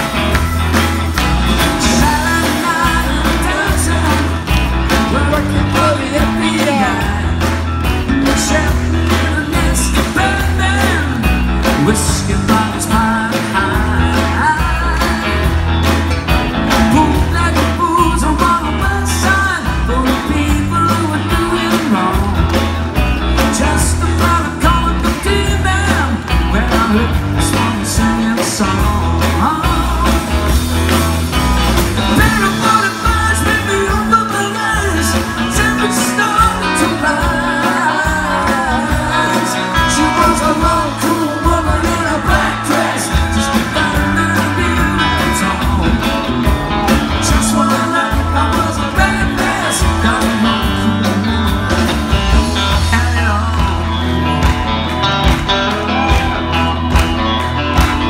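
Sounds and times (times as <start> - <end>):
live rock band playing: 0.0 - 58.0
man singing lead vocal: 1.1 - 16.0, 16.6 - 30.9, 32.0 - 54.6.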